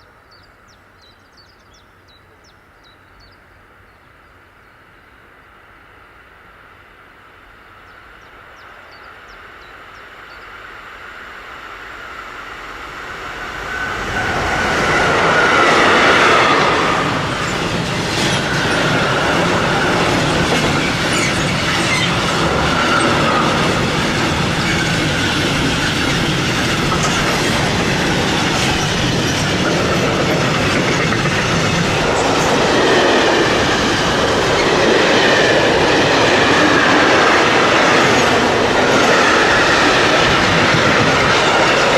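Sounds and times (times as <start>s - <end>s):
train wheels rumbling on rail: 8.3s - 41.9s.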